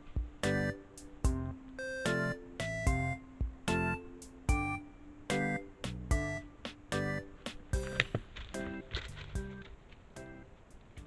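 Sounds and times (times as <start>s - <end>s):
background music with short pitched notes: 0.0s - 10.5s.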